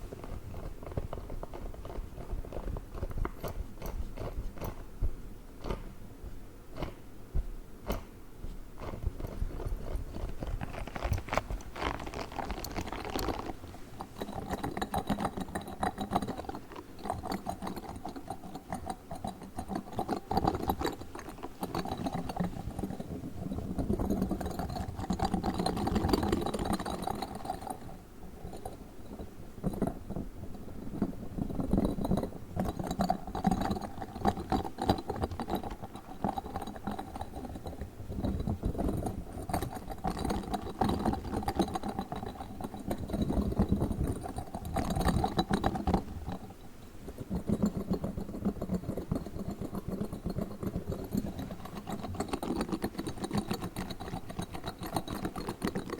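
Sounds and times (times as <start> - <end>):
spiky ball crackling and rubbing: 0.0 - 7.0, 7.8 - 27.9, 29.6 - 55.9.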